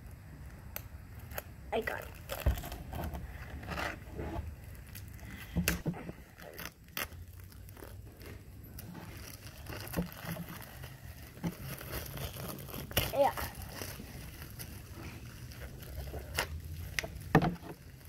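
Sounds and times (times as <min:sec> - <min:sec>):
objects and paper handled on table: 0:02.1 - 0:18.0.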